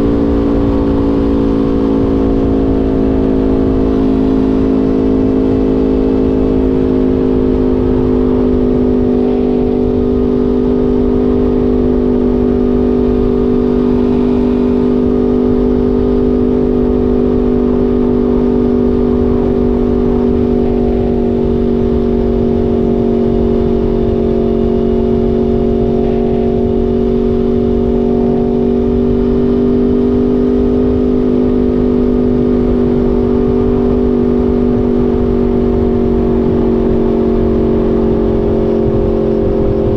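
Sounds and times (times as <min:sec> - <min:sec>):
motorcycle engine running steadily: 0:00.0 - 0:39.9
wind noise: 0:00.0 - 0:39.9.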